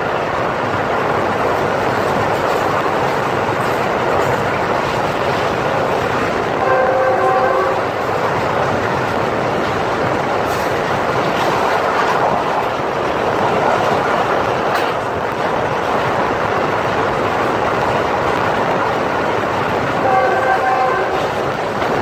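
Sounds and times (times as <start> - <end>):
rushing air: 0.0 - 22.0
train wheels rumbling on rails: 0.0 - 22.0.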